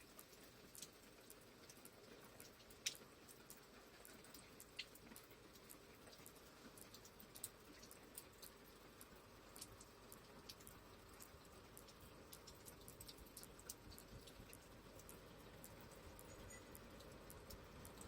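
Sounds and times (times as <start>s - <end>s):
low steady rain hiss: 0.0s - 18.0s
raindrops ticking: 0.0s - 18.0s.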